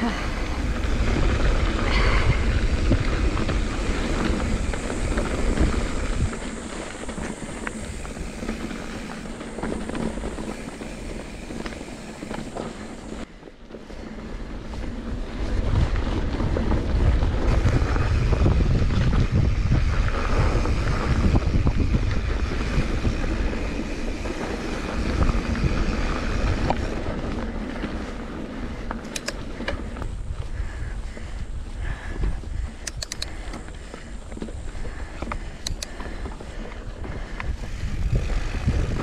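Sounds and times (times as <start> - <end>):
bike rattling clicks: 0.0 - 13.3, 16.9 - 39.0
wind buffeting microphone: 0.0 - 13.4, 14.2 - 39.0
tyres rolling on dirt: 0.0 - 39.0.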